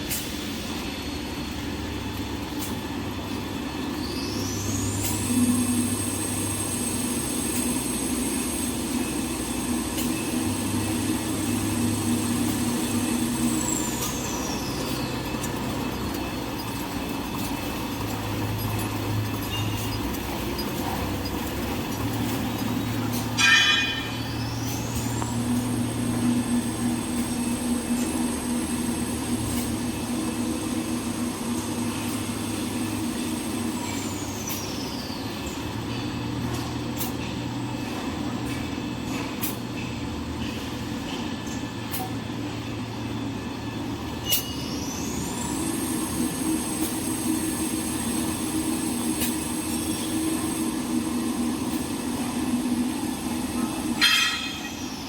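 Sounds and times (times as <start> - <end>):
machine humming and whining: 0.0 - 55.0.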